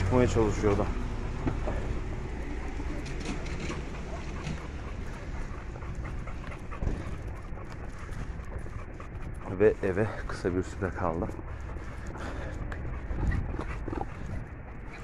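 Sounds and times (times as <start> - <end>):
faint dog sounds: 0.2 - 15.0.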